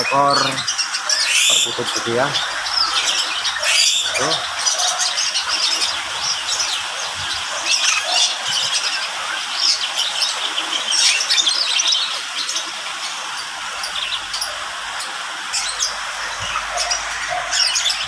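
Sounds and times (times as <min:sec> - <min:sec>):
cage birds chirping: 0:00.0 - 0:18.0
rain hiss: 0:00.0 - 0:18.0.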